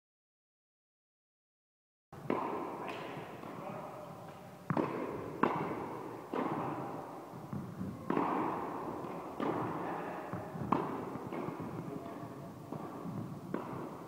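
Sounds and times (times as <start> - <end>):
tennis ball bouncing on court: 2.2 - 14.0
tennis ball struck by rackets: 2.2 - 14.0.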